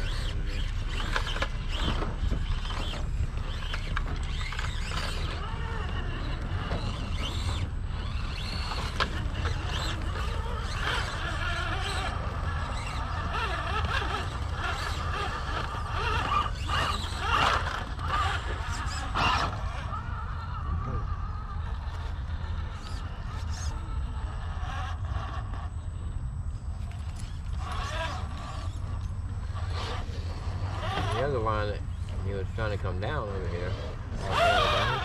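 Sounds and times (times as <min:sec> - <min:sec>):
electric motor and gears whining: 0:00.0 - 0:35.0.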